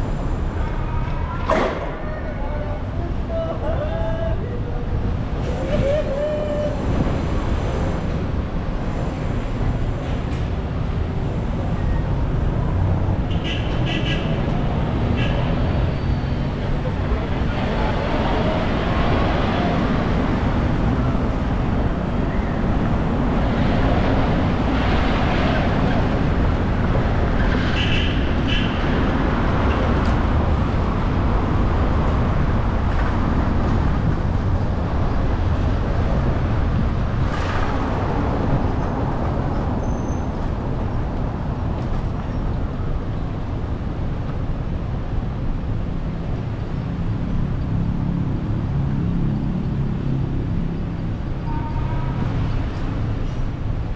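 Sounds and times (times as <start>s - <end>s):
tyre and wind rumble: 0.0s - 53.9s.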